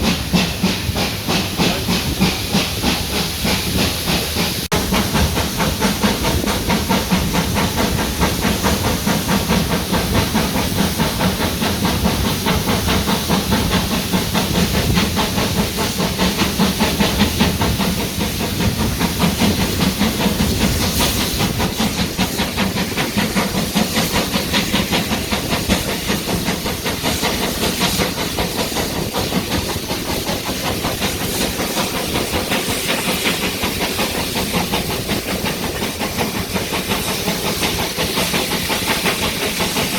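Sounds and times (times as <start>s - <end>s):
locomotive rhythmic beats: 0.0s - 39.9s
steam locomotive hissing: 0.0s - 39.9s.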